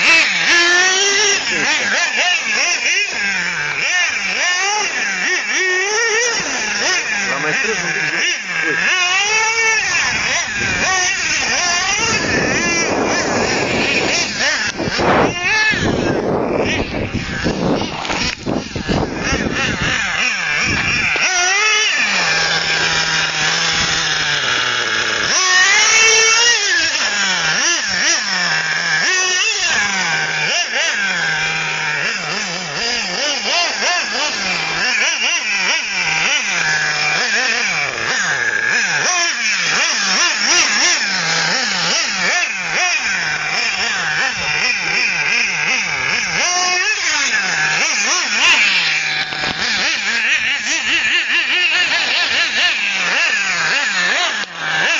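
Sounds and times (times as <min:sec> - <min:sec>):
rc nitro engine revving: 0:00.0 - 0:54.9.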